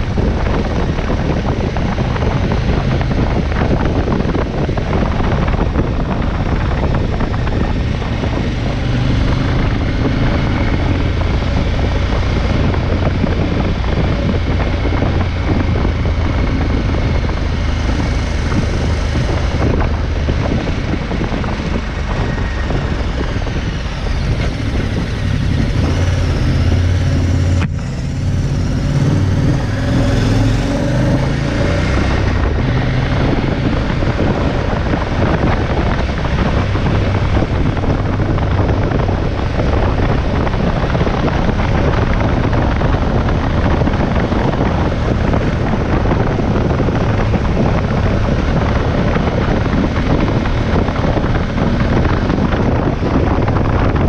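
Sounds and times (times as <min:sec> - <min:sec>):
motorcycle engine at road speed: 0:00.0 - 0:54.0
wind noise on microphone: 0:00.0 - 0:54.0.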